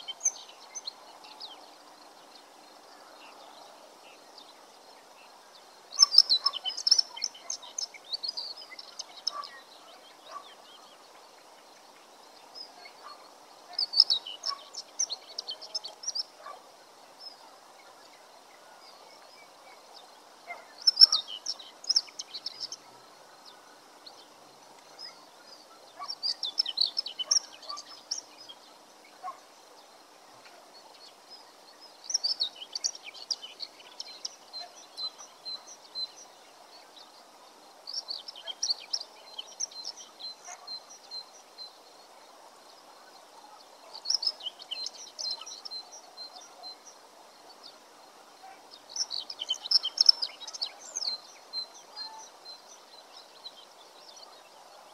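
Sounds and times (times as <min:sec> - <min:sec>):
faint background noise: 0:00.0 - 0:54.9
songbird chirping: 0:00.0 - 0:54.9.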